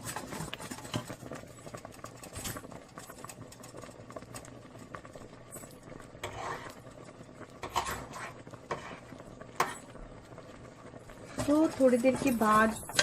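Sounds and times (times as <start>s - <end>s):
pot simmering hum: 0.0s - 13.0s.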